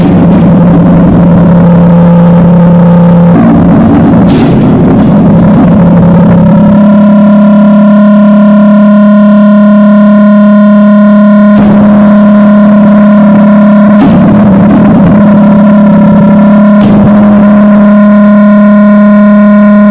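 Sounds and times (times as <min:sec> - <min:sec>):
distorted electronic drone: 0:00.0 - 0:19.9.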